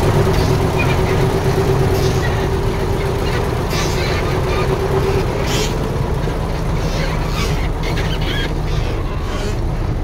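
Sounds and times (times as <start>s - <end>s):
diesel machinery rumbling: 0.0s - 10.0s.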